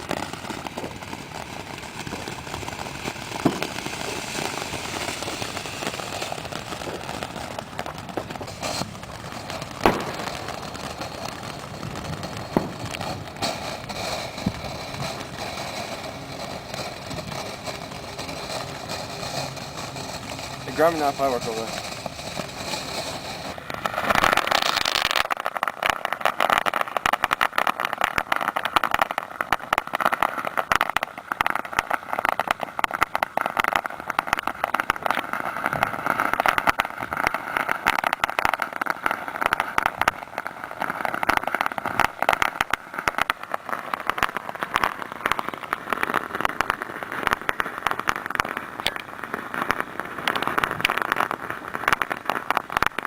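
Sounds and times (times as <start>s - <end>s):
firework fountain hissing and crackling: 0.0s - 53.0s.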